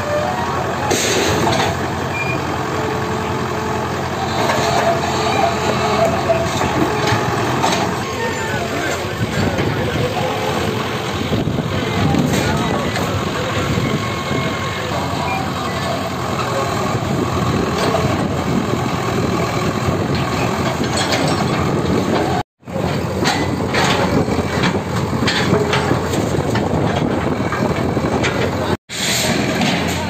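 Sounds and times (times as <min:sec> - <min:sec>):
diesel engine under load: 0:00.0 - 0:30.0.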